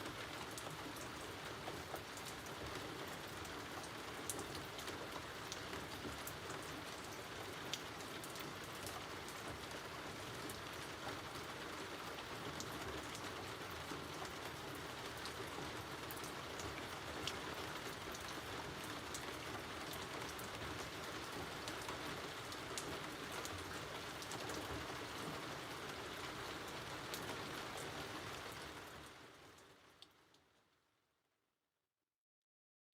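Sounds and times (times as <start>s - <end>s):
steady rain hiss: 0.0s - 30.3s.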